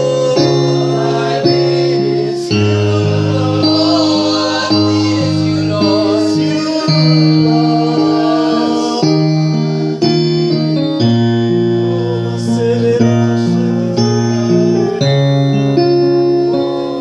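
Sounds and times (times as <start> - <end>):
slow worship music on keyboard: 0.0 - 17.0.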